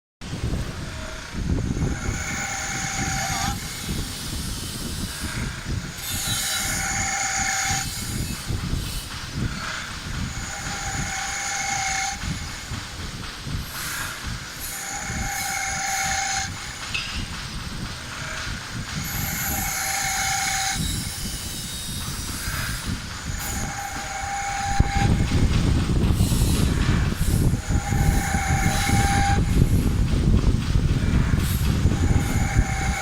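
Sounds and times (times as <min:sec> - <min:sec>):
lathe whining tone: 0:00.3 - 0:33.0
wood lathe rumbling: 0:00.3 - 0:33.0.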